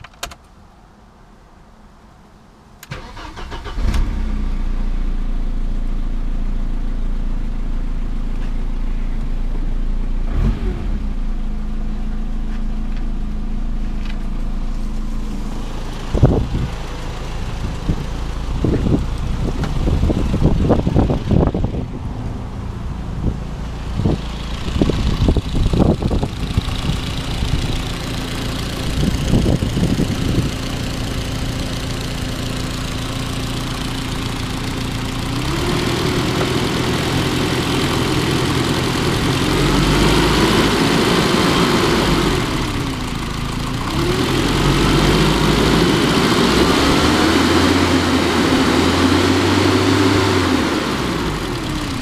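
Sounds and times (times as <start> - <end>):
car engine idling and revving: 2.9 - 52.0.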